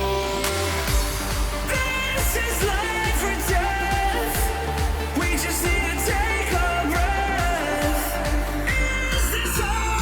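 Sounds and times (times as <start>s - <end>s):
sustained synth melody: 0.0s - 10.0s
punchy kick drum: 0.8s - 10.0s.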